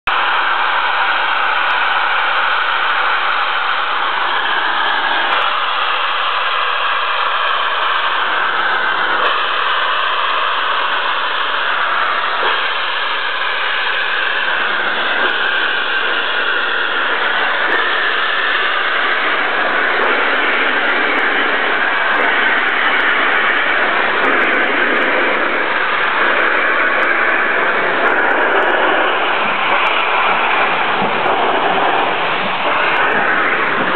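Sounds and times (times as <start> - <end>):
steam hissing from locomotive: 0.1 - 33.9.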